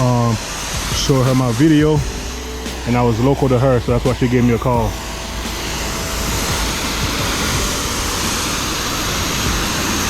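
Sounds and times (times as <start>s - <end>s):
pressure washer spraying water: 0.0s - 10.0s.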